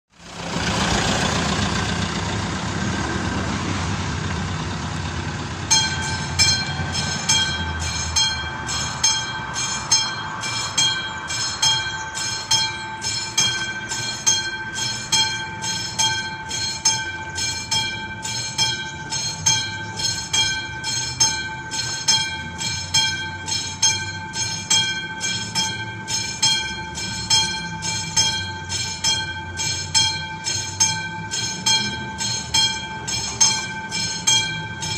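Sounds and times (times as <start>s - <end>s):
mechanical crossing bell ringing: 5.6s - 34.9s.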